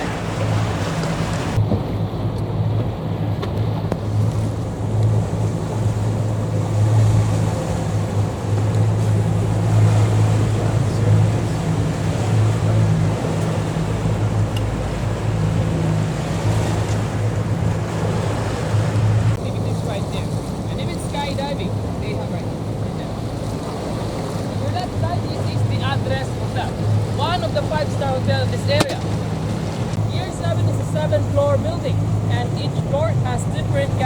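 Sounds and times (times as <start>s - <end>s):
boat engine droning: 0.0s - 34.0s
water noise: 0.0s - 34.0s.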